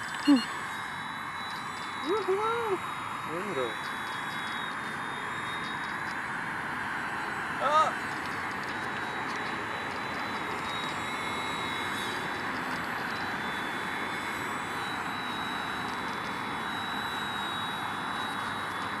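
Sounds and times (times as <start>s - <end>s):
helicopter rotor rushing: 0.0s - 19.0s
high-pitched motor whine: 0.0s - 19.0s.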